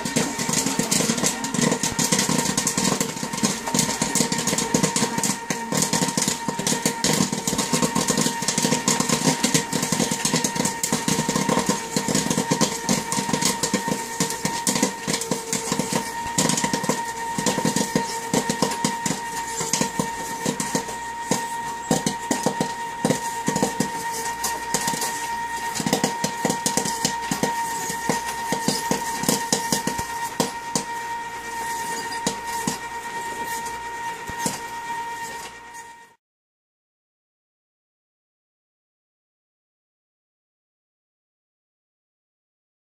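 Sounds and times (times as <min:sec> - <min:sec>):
popcorn popping: 0:00.0 - 0:36.1
popcorn machine humming: 0:00.0 - 0:36.2.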